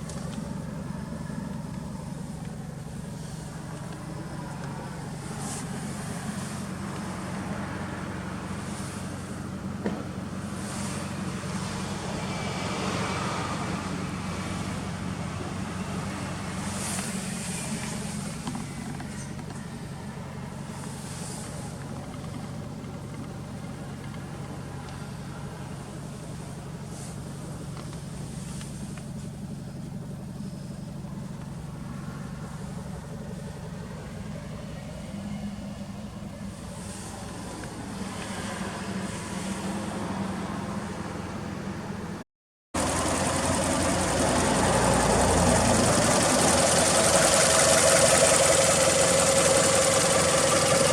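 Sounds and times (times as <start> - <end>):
car engine idling: 0.0 - 42.2, 42.8 - 50.9.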